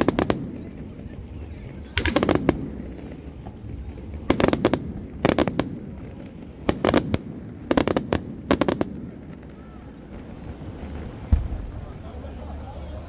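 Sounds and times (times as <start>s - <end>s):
fireworks crackling bangs: 0.0s - 13.0s
low background noise: 0.0s - 13.0s.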